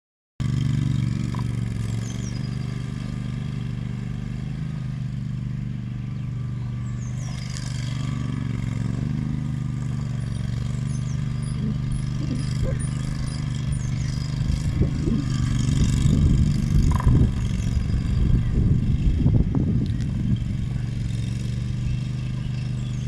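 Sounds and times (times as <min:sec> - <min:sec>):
mower engine running: 0:00.4 - 0:23.0.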